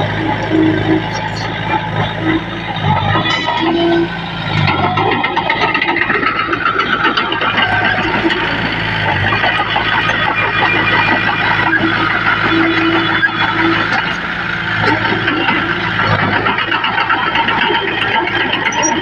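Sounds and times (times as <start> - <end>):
heavy diesel engine clattering: 0.0 - 19.0.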